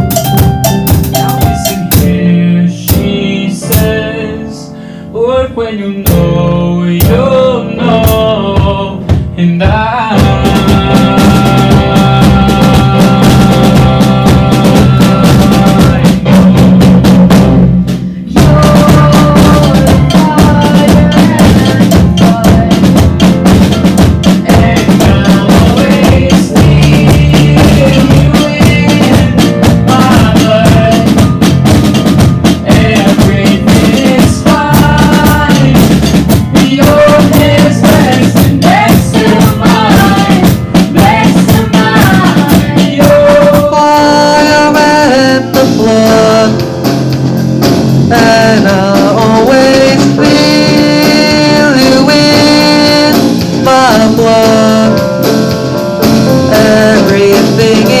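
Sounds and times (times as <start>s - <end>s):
snare drum: 0.0s - 2.3s, 2.9s - 4.0s, 8.0s - 58.0s
bass drum: 0.0s - 4.2s, 6.1s - 58.0s
band playing pop music: 0.0s - 4.6s, 5.2s - 58.0s.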